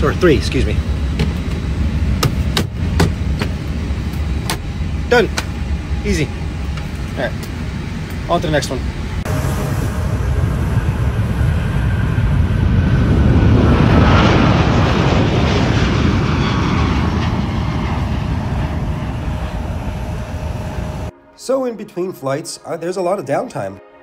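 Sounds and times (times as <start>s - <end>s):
jet airliner taking off: 0.0s - 21.2s.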